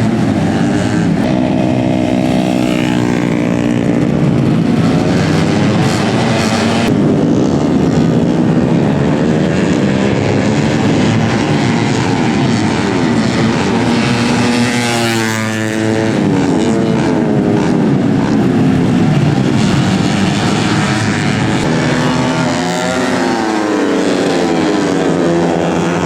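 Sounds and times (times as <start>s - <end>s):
race motorcycles running hard: 0.0s - 26.0s.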